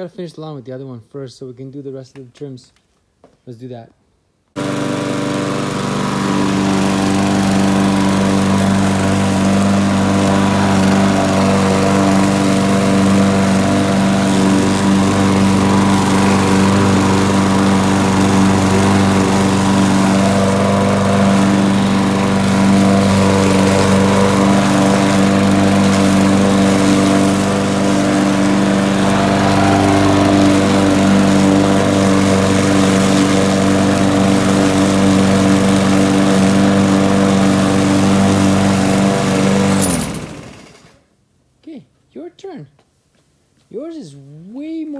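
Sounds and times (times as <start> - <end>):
push mower cutting grass: 4.6 - 41.0.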